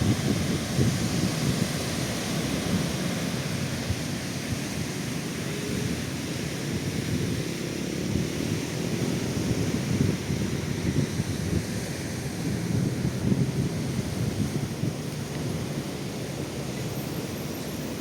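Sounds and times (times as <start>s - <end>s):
wind on microphone: 0.0s - 16.3s
sea surf on beach: 0.0s - 18.0s.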